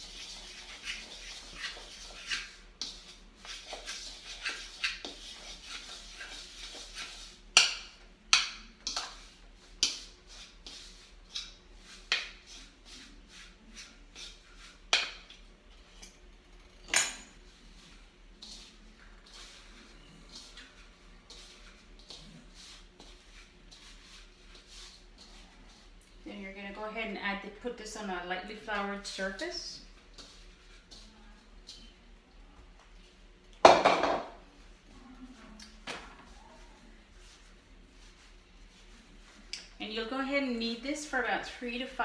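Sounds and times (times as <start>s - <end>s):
fork stirring dough in bowl: 0.0s - 16.2s, 17.4s - 32.2s, 34.3s - 42.0s.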